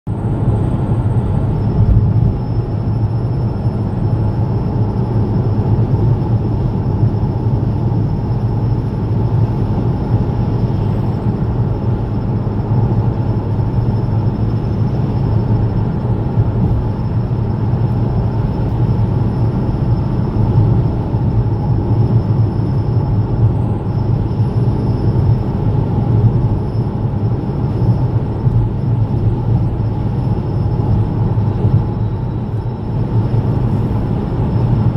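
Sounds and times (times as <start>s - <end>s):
car driving drone: 0.1s - 34.9s
faint high whine: 0.1s - 34.9s.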